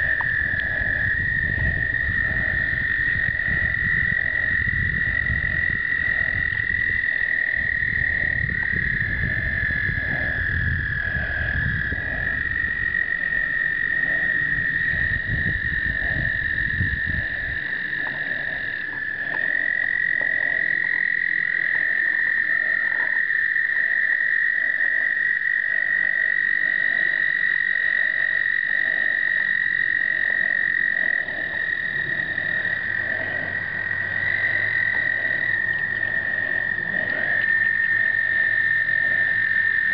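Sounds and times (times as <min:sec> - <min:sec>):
toads trilling: 0:00.0 - 0:39.9.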